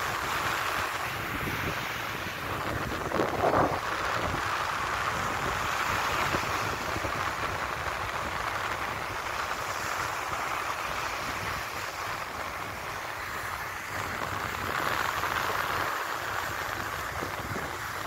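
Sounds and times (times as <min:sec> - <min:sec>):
sea surf washing in: 0:00.0 - 0:18.0
wind rushing over microphone: 0:00.0 - 0:18.0.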